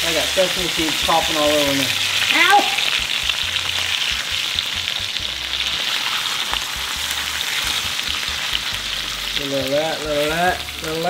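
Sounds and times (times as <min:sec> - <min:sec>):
fish sizzling in frying pan: 0:00.0 - 0:11.0
seeds popping and crackling in oil: 0:00.3 - 0:11.0.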